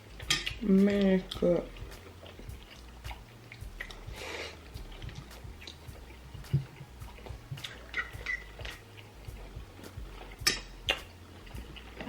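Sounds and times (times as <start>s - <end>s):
mouth clicks and chewing: 0.0s - 12.0s.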